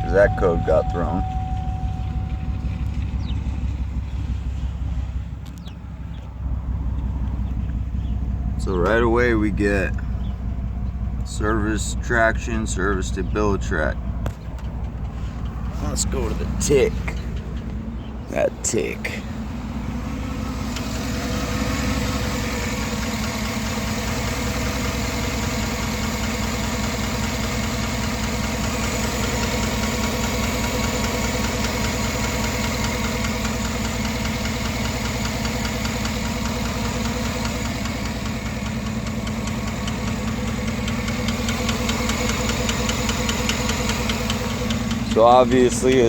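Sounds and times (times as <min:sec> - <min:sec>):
engine idling with lifter tick: 0:00.0 - 0:46.0.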